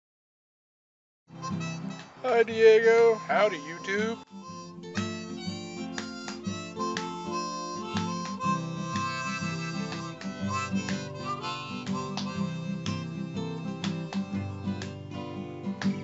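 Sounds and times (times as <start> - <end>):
harmonica tune: 1.4 - 15.6
plucked acoustic guitar: 1.4 - 16.0.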